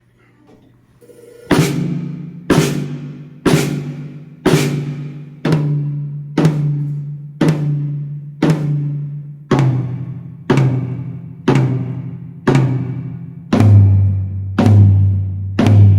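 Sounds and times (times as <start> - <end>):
low-pitched drum hits: 1.5 - 7.9, 8.5 - 15.9.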